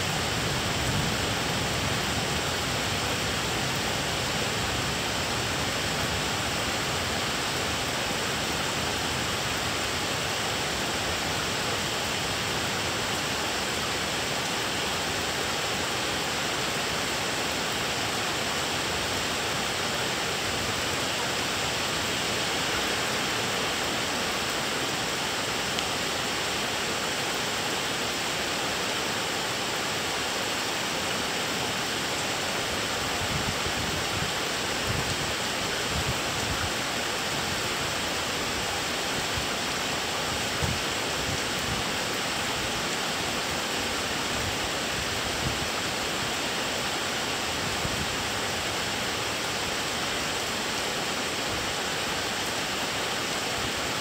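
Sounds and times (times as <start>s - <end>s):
rain falling steadily: 0.0s - 54.0s.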